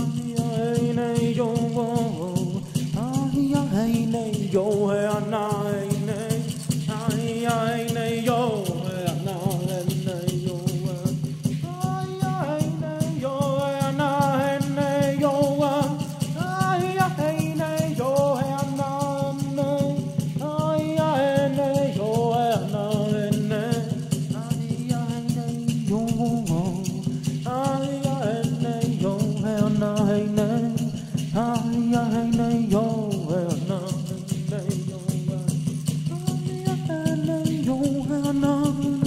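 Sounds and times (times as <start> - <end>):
rattle shaken quickly: 0.0 - 39.0.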